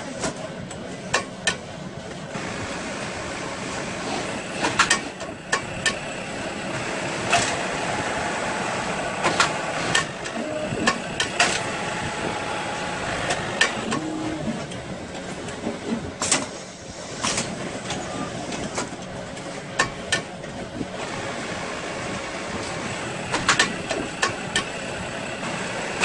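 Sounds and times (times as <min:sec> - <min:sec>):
sharp pneumatic clacks: 0:00.0 - 0:01.6, 0:03.7 - 0:06.1, 0:06.8 - 0:08.0, 0:08.6 - 0:21.6, 0:22.3 - 0:26.0
steady mechanical hum: 0:00.0 - 0:26.0.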